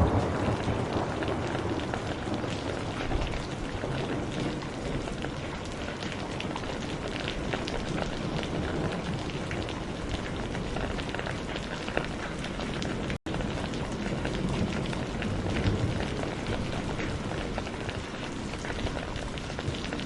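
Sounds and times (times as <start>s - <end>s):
rain on a hard surface: 0.0s - 20.0s.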